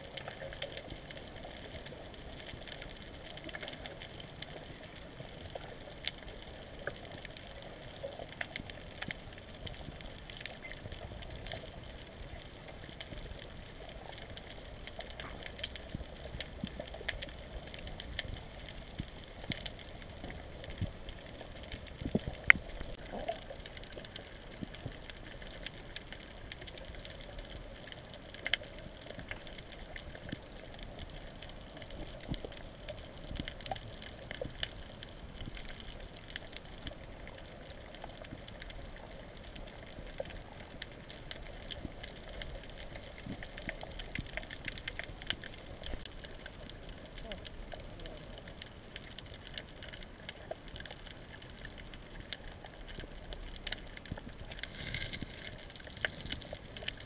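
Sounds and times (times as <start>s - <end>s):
sharp clicks and crackles: 0.0s - 57.0s
underwater hiss and wash: 0.0s - 57.0s.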